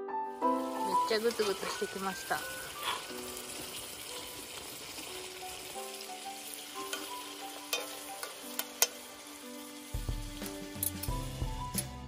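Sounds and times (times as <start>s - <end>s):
oil and garlic sizzling in a pan: 0.3s - 12.0s.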